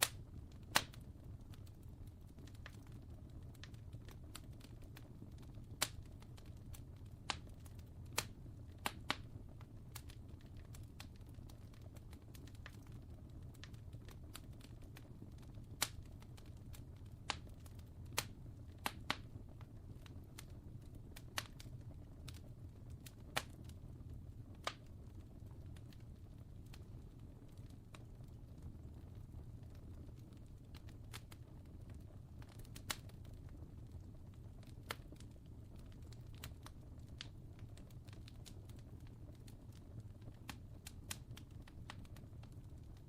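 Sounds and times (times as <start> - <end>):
fire crackling and popping: 0.0 - 43.0.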